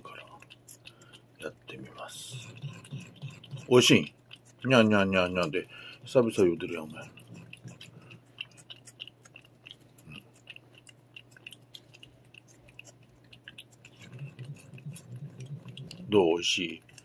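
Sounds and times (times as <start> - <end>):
cat licking and lapping: 0.0 - 17.0.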